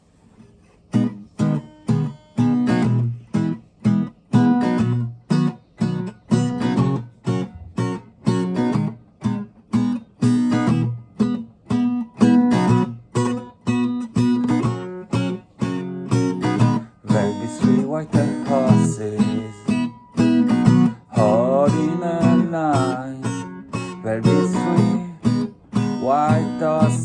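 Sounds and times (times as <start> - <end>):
acoustic guitar choppy strumming: 0.9 - 27.0.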